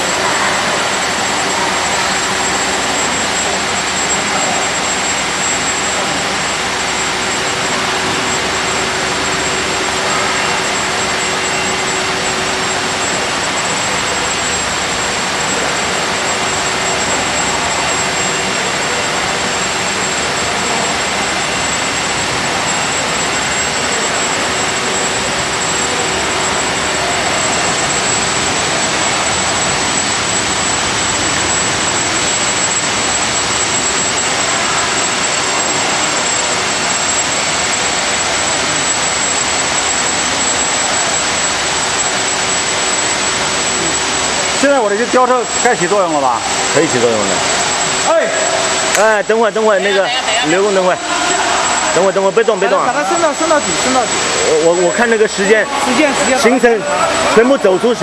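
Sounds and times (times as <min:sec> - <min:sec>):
industrial machinery rushing noise: 0:00.0 - 0:58.0
thin high whine: 0:00.0 - 0:58.0.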